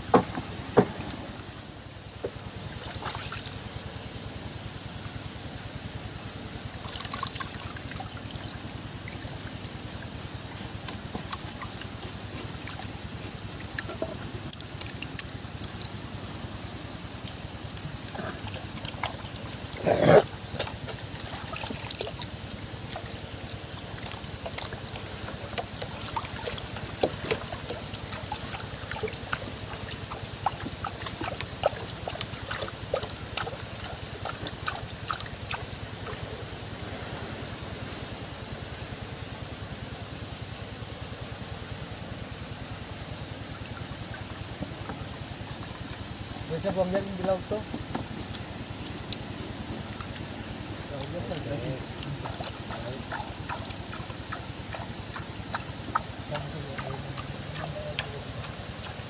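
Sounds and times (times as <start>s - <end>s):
water trickling and sloshing: 0.0s - 59.0s.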